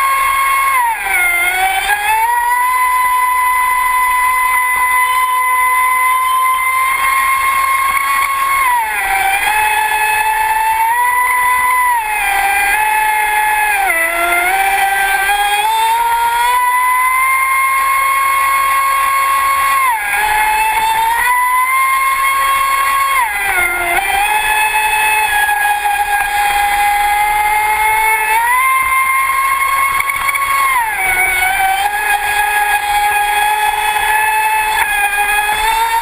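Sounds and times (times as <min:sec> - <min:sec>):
electric boat motor whining: 0:00.0 - 0:36.0.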